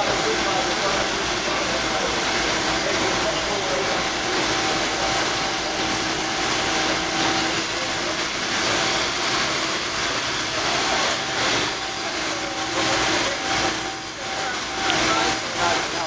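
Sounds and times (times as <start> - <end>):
constant motor hum: 0.0 - 16.0
dough sheeting machinery running: 0.0 - 16.0.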